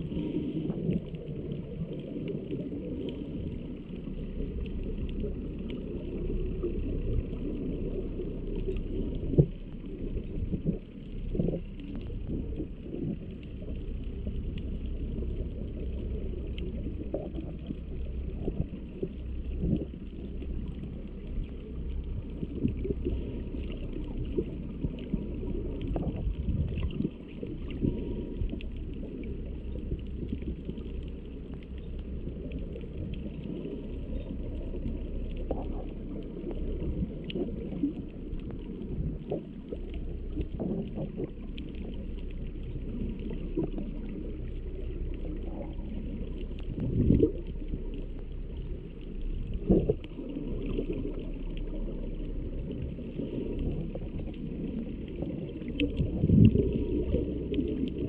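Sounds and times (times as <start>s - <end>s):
low underwater rumble: 0.0s - 58.0s
small knocks and gurgles: 4.2s - 58.0s.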